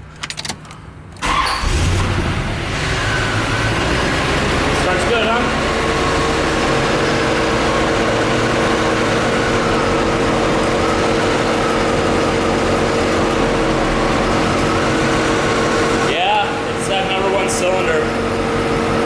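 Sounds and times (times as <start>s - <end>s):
engine idling with misfire: 1.2s - 19.0s.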